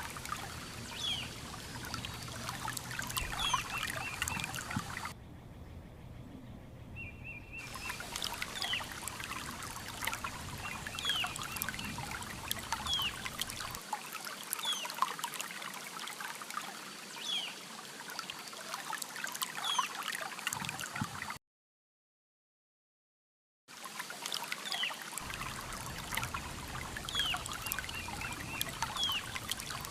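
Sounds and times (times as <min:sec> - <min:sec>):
river water trickling: 0:00.0 - 0:05.2, 0:07.0 - 0:21.4, 0:23.7 - 0:29.9.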